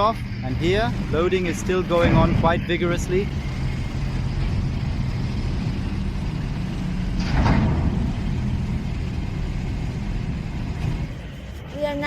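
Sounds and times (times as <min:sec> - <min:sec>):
heavy vehicle engines running: 0:00.0 - 0:12.0.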